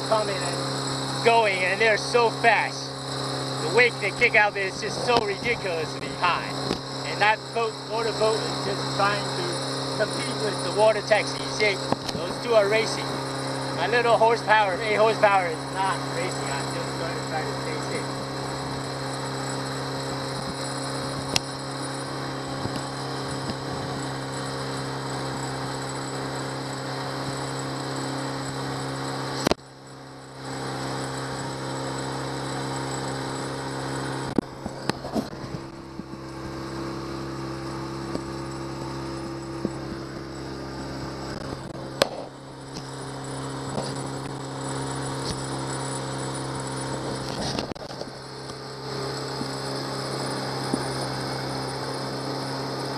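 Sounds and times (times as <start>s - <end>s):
outboard motor running: 0.0s - 52.9s.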